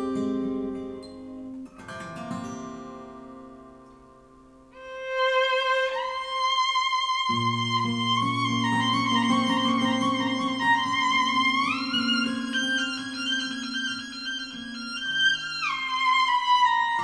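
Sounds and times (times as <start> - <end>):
picked guitar notes: 0.0 - 17.0
strings: 0.0 - 17.0.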